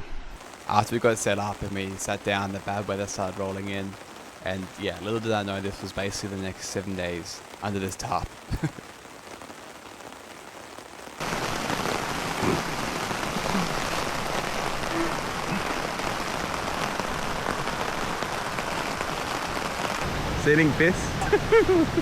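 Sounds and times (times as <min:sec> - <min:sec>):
steady rain falling: 0:00.3 - 0:22.0.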